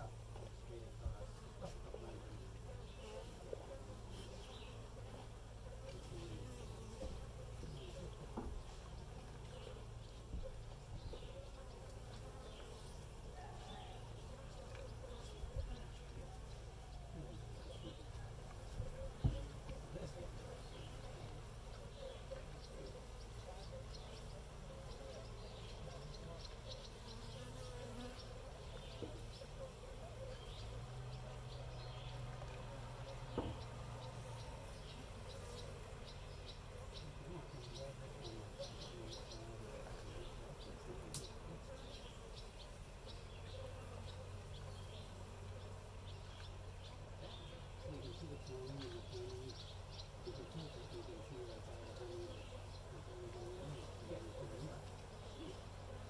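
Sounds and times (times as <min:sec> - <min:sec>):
birds chirping high: 0:00.0 - 0:56.0
honeybees buzzing: 0:00.0 - 0:56.0.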